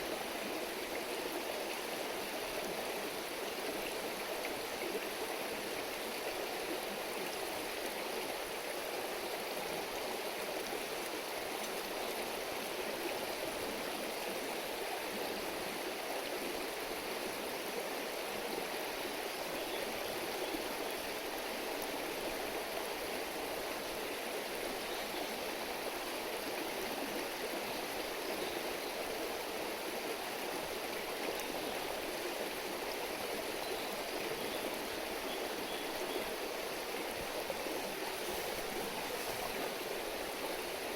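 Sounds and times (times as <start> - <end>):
river babbling: 0.0 - 40.9.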